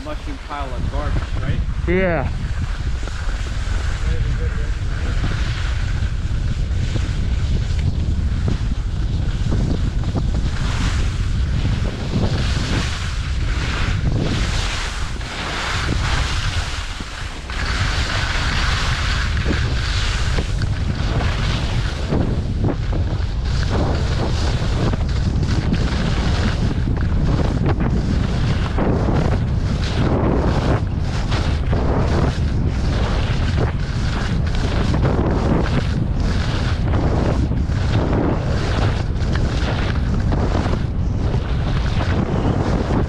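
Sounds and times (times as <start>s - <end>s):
skis scraping over snow: 0.0s - 43.0s
wind buffeting microphone: 0.0s - 43.0s.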